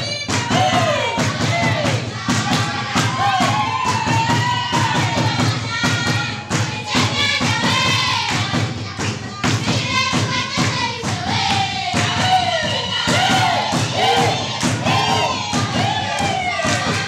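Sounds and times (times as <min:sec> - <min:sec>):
children singing: 0:00.0 - 0:17.0
hands clapping: 0:00.2 - 0:17.0.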